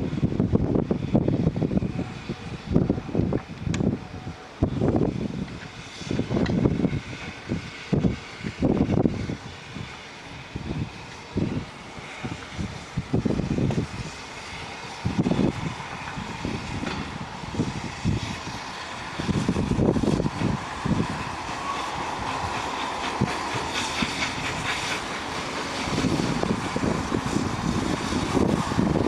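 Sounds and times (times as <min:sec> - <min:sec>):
steam locomotive running: 0:00.0 - 0:29.0
wind buffeting microphone: 0:00.0 - 0:29.0.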